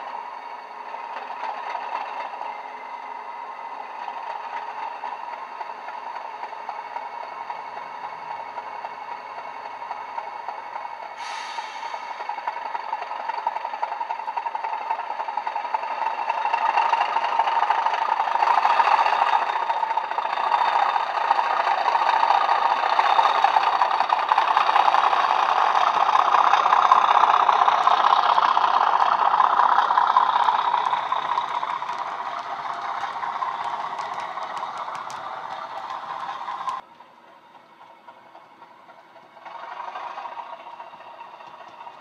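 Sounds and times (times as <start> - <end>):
model train diesel engine sound: 0.0 - 42.0.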